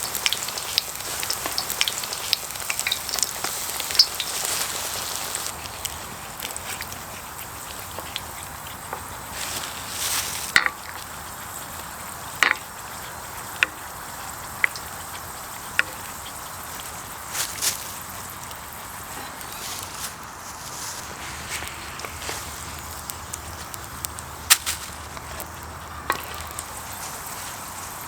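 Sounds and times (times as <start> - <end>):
dumplings sizzling in hot oil: 0.0 - 28.0.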